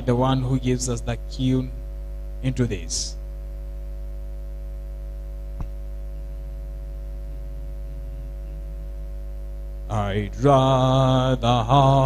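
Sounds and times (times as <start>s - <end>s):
electrical hum with steady tones: 0.0s - 12.0s.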